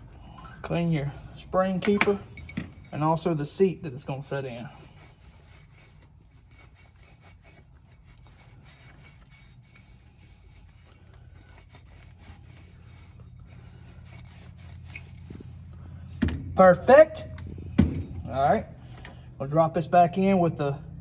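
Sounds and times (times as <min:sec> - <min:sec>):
faint rubbing and scraping: 0:00.0 - 0:19.4
low steady hum: 0:00.0 - 0:21.0.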